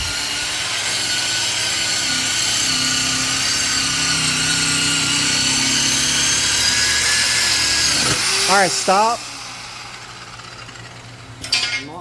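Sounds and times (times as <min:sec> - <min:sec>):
power sander whining: 0:00.0 - 0:11.4.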